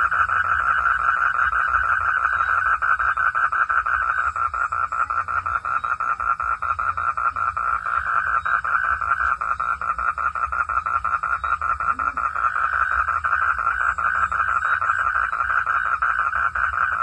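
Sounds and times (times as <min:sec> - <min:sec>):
frog calling in fast pulses: 0:00.0 - 0:17.0.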